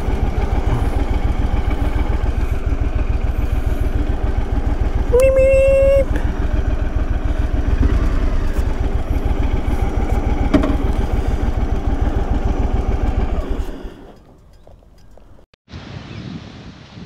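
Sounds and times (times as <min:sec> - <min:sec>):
faint engine ticks: 0:00.0 - 0:15.4
motorcycle engine idling: 0:00.0 - 0:15.4.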